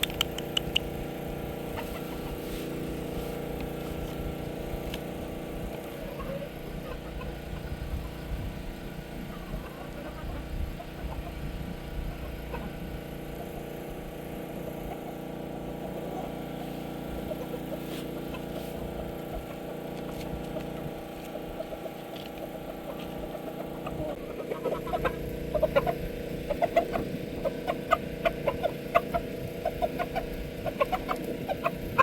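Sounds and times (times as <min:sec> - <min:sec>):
motor-like hum: 0:00.0 - 0:32.0.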